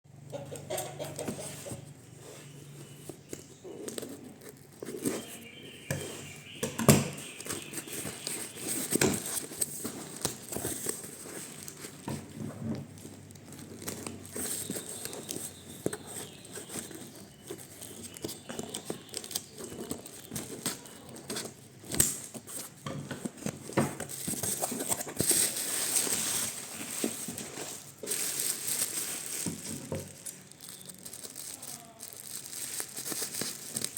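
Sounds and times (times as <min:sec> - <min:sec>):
packaging crinkled and torn: 0:02.8 - 0:12.2, 0:12.9 - 0:33.9.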